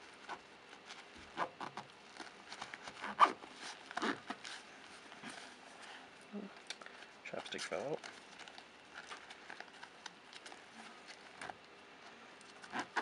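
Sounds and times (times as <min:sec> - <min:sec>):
nylon pouch rustling: 0:00.0 - 0:13.0.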